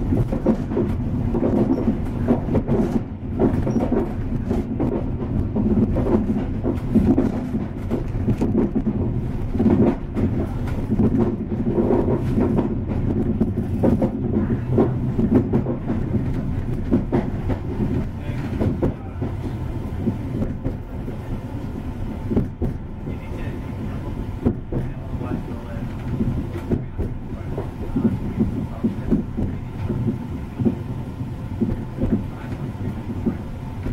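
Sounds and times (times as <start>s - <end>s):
track knocks and clatters: 0.0s - 33.9s
train wheels rumbling on rails: 0.0s - 33.9s.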